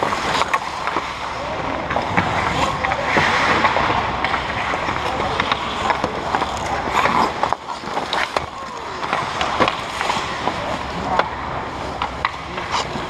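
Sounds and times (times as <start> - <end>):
hockey sticks clacking on ice: 0.0 - 13.0
skates scraping on ice: 0.0 - 13.0
indistinct players' voices: 0.1 - 13.0.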